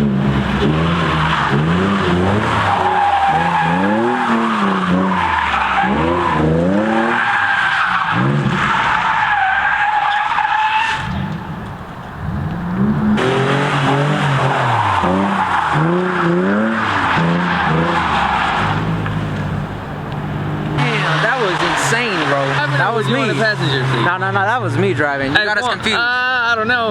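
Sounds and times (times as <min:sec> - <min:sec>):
car engine revving: 0:00.0 - 0:26.9
tyres squealing: 0:00.3 - 0:26.9.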